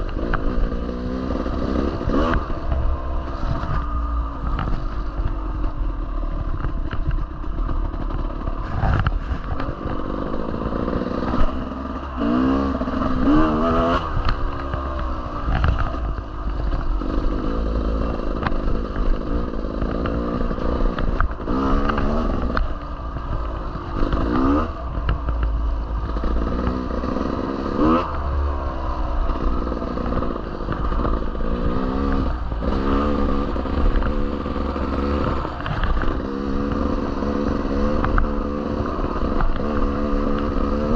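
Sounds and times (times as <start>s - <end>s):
bike rattling: 0.0s - 40.9s
dirt bike engine revving: 0.0s - 40.9s.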